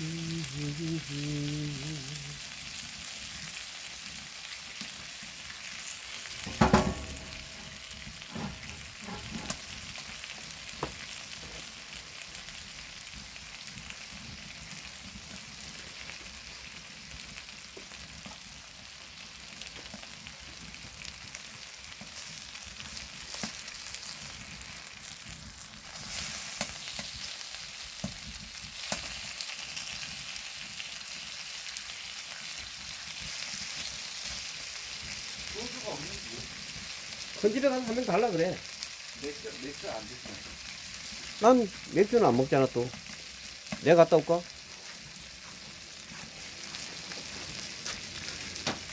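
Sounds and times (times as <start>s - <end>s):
meat sizzling on hot stone: 0.0s - 48.9s.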